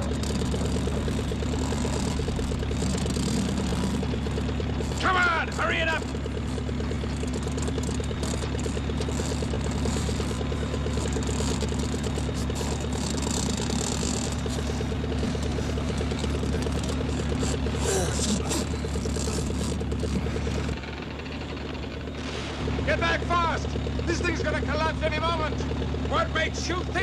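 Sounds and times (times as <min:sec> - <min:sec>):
biplane engine idling: 0:00.0 - 0:27.0.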